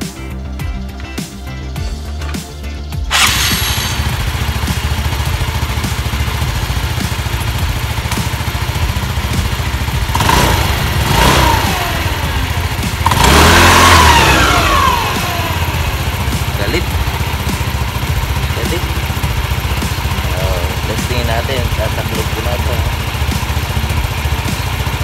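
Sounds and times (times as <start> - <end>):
scooter engine idling and revving: 2.8 - 25.0.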